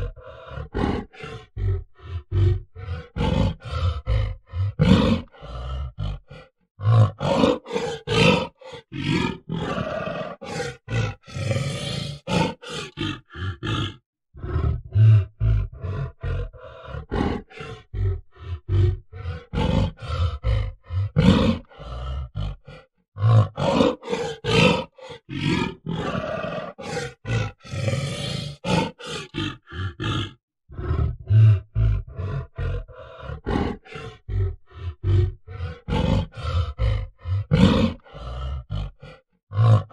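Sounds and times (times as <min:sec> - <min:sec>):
gorilla grunting and roaring: 0:00.0 - 0:39.9.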